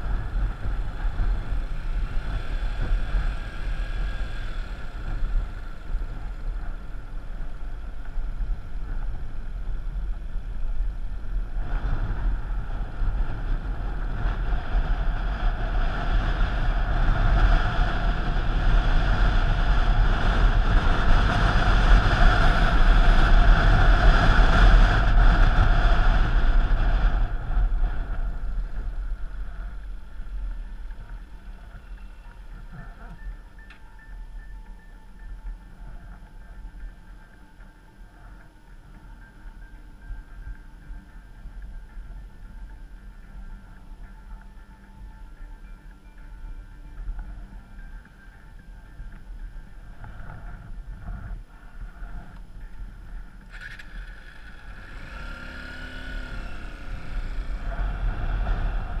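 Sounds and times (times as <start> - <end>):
vehicle engine running: 0.0 - 44.4, 49.9 - 59.0
wind buffeting microphone: 0.0 - 59.0.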